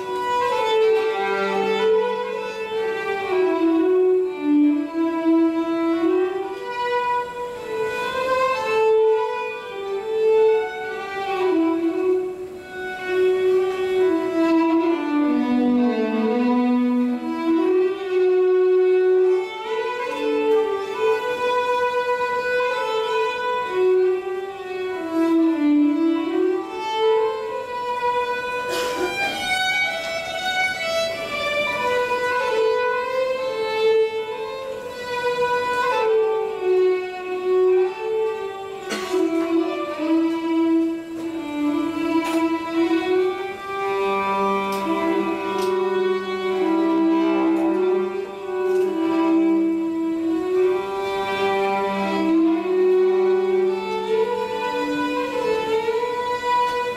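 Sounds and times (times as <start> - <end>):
violin playing slow melody: 0.0 - 56.9.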